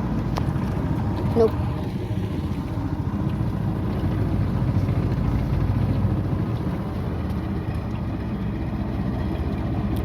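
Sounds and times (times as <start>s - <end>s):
boat engine running steadily: 0.0s - 10.0s.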